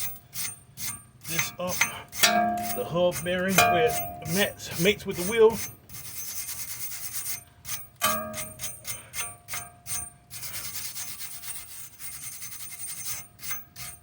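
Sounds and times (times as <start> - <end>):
metallic clink: 0.0 - 6.4, 7.7 - 14.0
hand scrubbing metal: 0.0 - 14.0.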